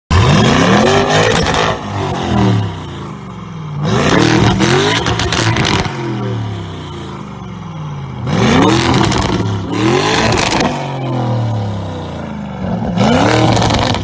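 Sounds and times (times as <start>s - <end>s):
car engine revving: 0.1s - 14.0s.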